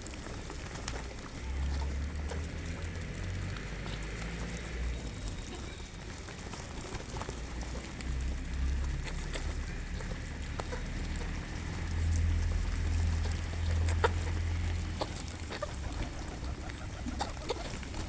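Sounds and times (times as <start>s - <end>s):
birds pecking at feed: 0.0s - 18.0s.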